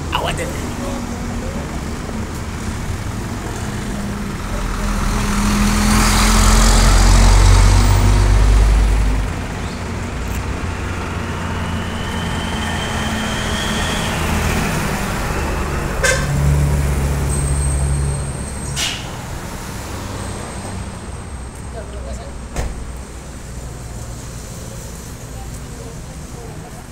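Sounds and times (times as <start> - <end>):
road noise: 0.0 - 26.9.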